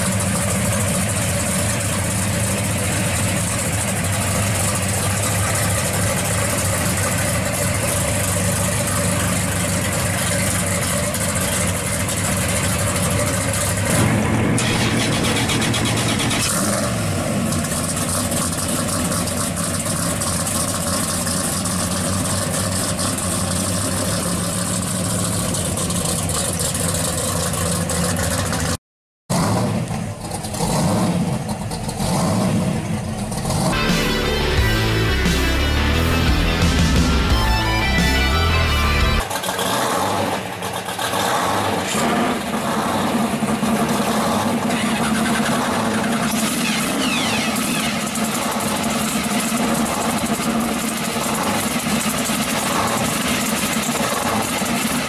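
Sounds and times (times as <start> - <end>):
car driving off: 0.0 - 55.0
car engine idling and revving: 0.0 - 55.0
engine throttle blips: 0.0 - 55.0.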